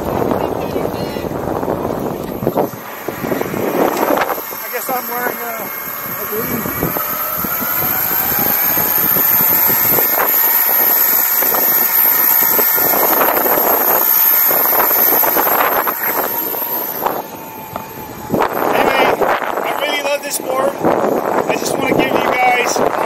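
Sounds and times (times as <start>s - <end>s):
electric motors whining: 0.0s - 23.0s
wind and road noise: 0.0s - 23.0s.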